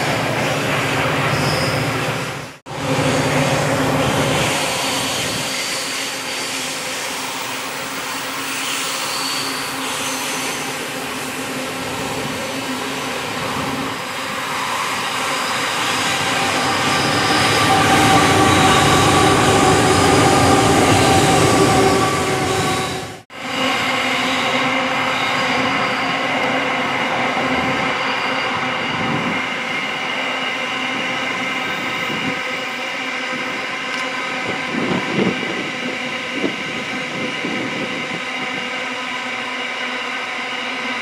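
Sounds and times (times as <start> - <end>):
diesel locomotive engines: 0.0 - 41.0
freight train rolling: 0.0 - 41.0
train wheel squeal: 0.0 - 41.0.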